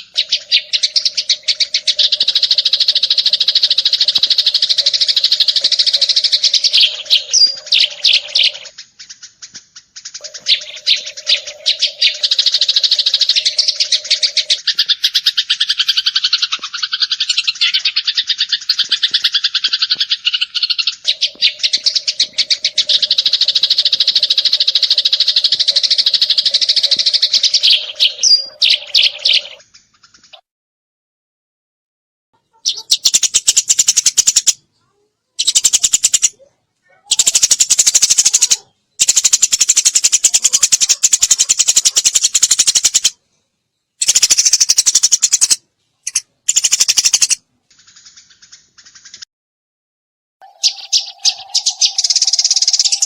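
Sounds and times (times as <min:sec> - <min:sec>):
sparrow chirping rapidly: 0:00.0 - 0:30.4, 0:32.4 - 0:43.2, 0:44.0 - 0:49.2, 0:50.4 - 0:53.0.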